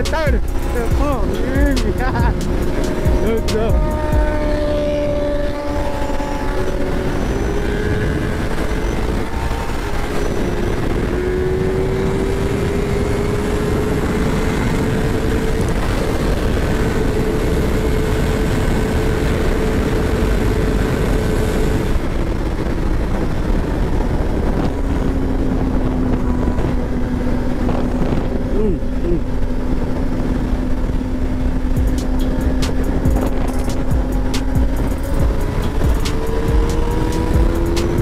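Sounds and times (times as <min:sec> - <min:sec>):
motorcycle engine drone: 0:00.0 - 0:38.0
wind rush: 0:00.0 - 0:38.0.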